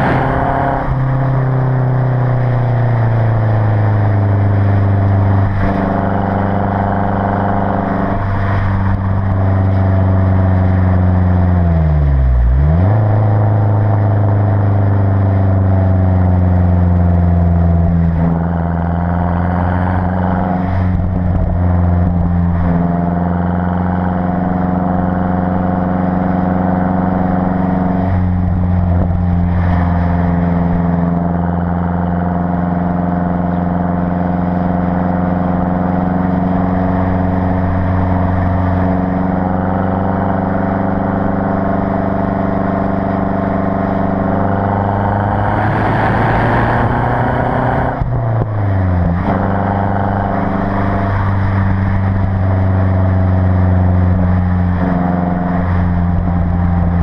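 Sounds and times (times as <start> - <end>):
car exhaust drone: 0.0 - 57.0.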